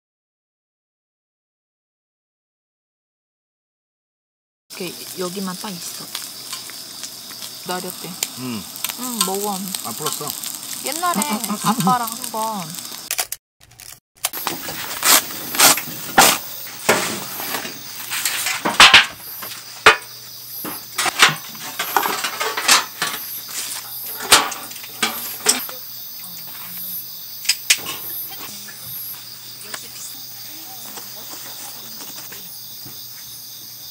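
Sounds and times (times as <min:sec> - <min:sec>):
crickets chirping: 0:04.7 - 0:13.1, 0:14.3 - 0:33.9.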